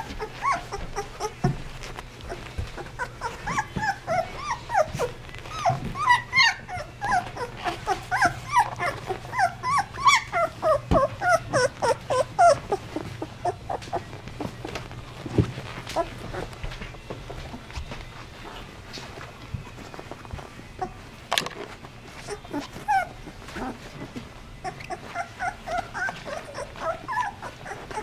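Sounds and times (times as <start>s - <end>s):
puppies whimpering and squeaking: 0.0s - 28.0s.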